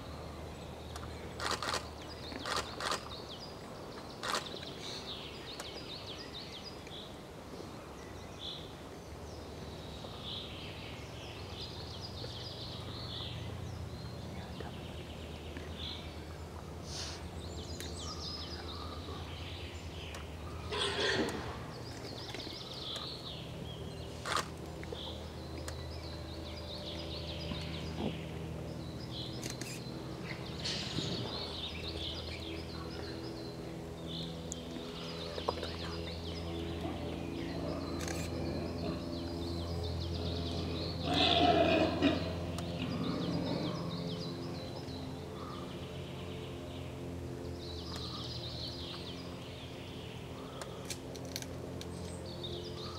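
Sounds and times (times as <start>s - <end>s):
songbirds chirping and singing: 0.0s - 52.9s
steady low hum: 0.0s - 52.9s.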